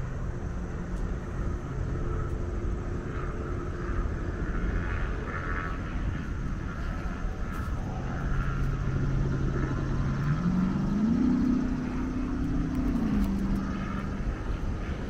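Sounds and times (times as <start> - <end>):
engine drone: 0.0 - 15.0
low rumble: 0.0 - 15.0.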